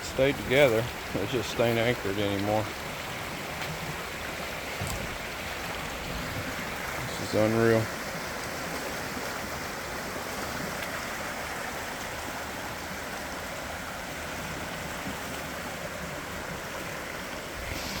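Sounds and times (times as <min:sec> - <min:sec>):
creek water running: 0:00.0 - 0:18.0.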